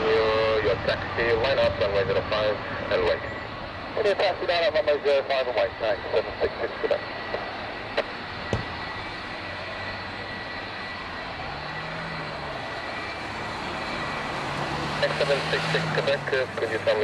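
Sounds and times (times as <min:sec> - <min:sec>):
jet engines taxiing: 0:00.0 - 0:17.0.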